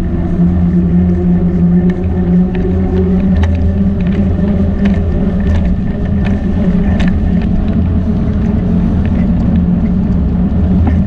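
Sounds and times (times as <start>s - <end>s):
motor-like drone: 0.0s - 11.0s.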